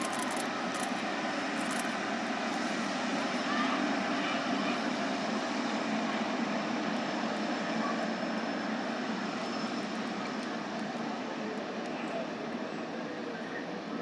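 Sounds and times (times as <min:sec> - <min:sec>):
jet engines at taxi power: 0:00.0 - 0:14.0.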